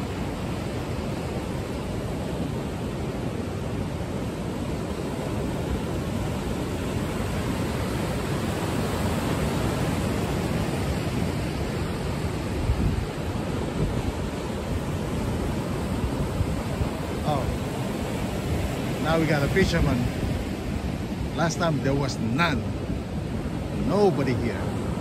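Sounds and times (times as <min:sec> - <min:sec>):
ocean surf breaking: 0:00.0 - 0:25.0.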